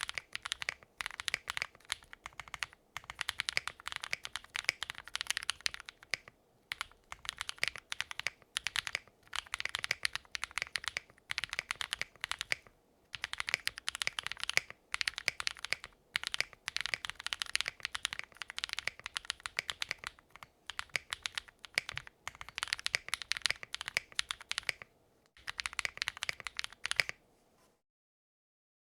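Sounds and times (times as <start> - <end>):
mechanical keyboard typing: 0.0 - 27.2.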